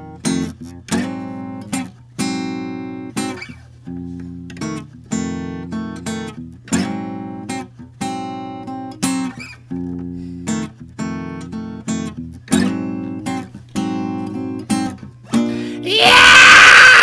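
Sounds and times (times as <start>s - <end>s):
acoustic guitar strumming chords: 0.0s - 15.8s.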